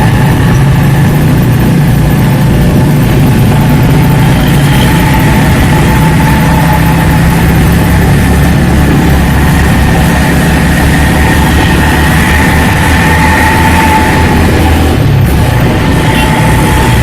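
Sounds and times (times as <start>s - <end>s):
bus engine idling loud exhaust: 0.0s - 17.0s.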